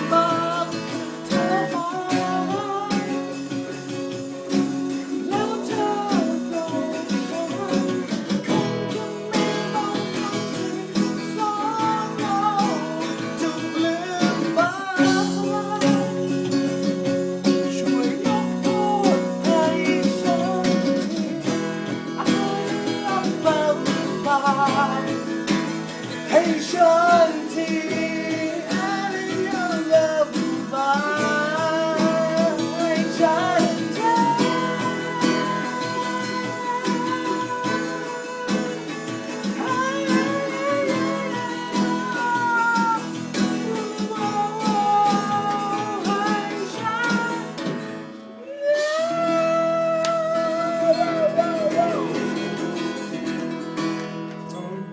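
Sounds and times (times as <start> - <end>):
acoustic guitar: 0.0 - 54.9
person singing: 0.0 - 54.9.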